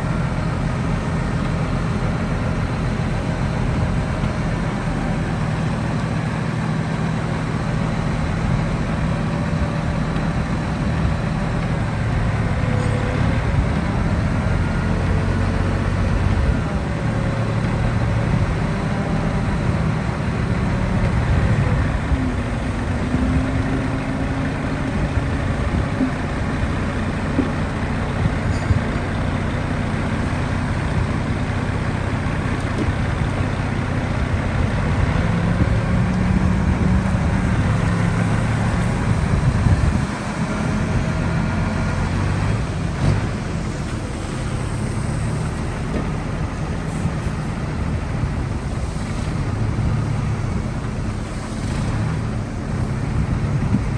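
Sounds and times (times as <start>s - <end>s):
heavy diesel engine under load: 0.0s - 53.9s.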